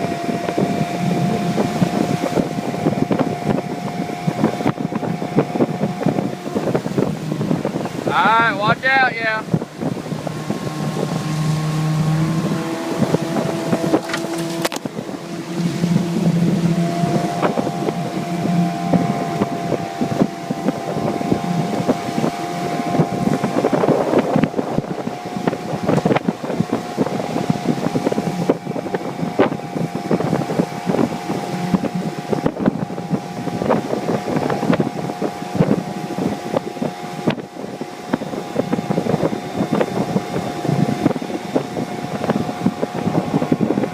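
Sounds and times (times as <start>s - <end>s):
outboard motor running: 0.0s - 43.9s
rushing water and hull noise: 0.0s - 43.9s
wind on microphone: 0.0s - 43.9s.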